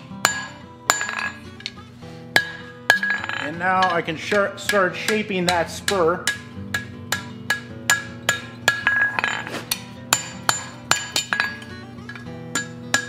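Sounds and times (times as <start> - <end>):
hammer striking metal on anvil: 0.1 - 13.0.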